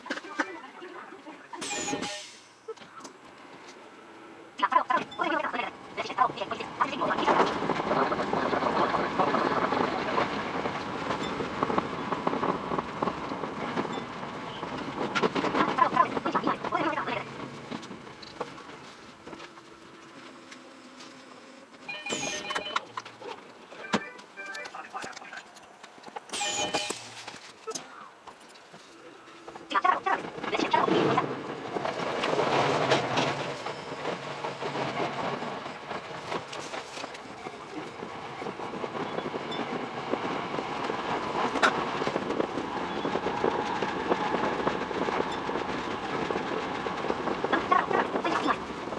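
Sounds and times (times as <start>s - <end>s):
sped-up electric train clatter: 3.0s - 48.9s.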